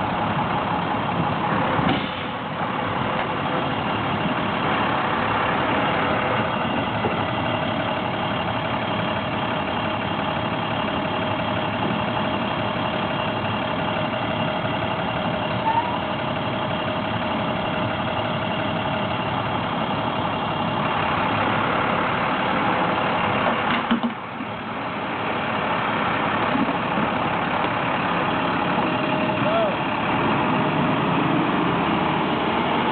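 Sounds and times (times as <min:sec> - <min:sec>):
truck engine running: 0:00.0 - 0:32.9.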